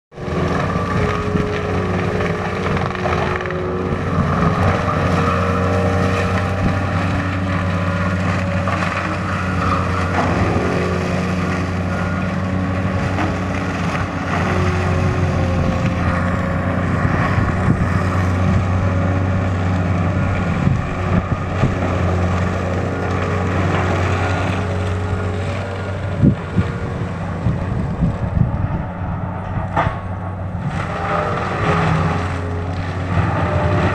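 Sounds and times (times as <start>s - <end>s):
diesel engine under load: 0.1s - 33.9s
mulcher grinding brush: 0.1s - 33.9s.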